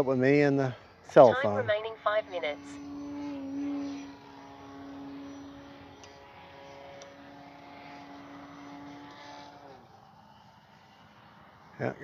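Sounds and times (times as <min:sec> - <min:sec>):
model plane propeller whine: 0:00.0 - 0:12.0.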